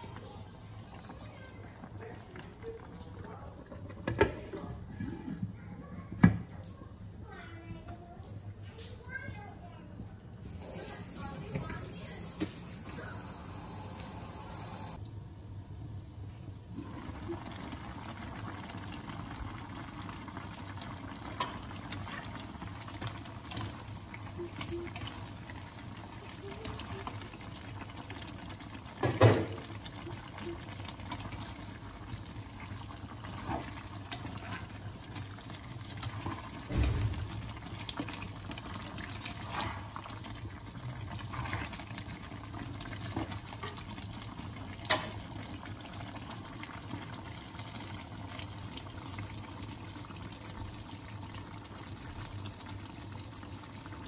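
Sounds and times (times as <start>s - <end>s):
stew bubbling in a pot: 0.0s - 7.2s, 10.4s - 54.0s.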